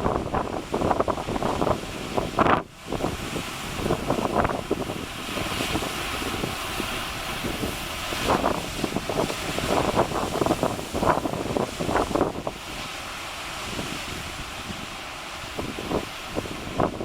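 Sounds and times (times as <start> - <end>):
surf hiss: 0.0 - 17.0
wind buffeting microphone: 0.0 - 17.0.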